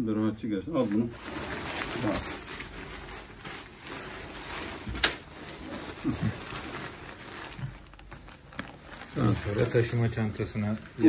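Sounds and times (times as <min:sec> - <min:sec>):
tent fabric rustling: 0:00.8 - 0:11.0.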